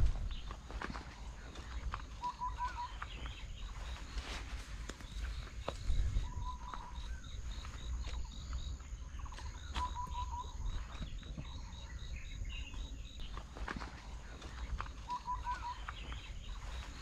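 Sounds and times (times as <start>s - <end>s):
insect chirping: 0.0s - 17.0s
bird notes: 0.2s - 17.0s.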